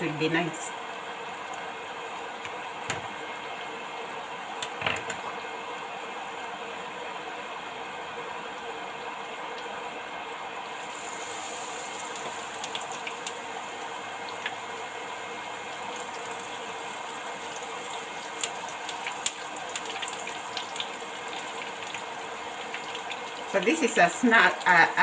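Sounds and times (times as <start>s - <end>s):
oil sizzling with crackles: 0.0s - 25.0s.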